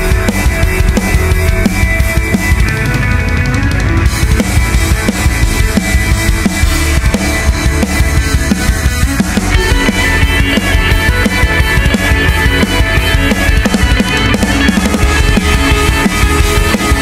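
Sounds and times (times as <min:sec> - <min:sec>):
loud music with drum beat: 0:00.0 - 0:17.0.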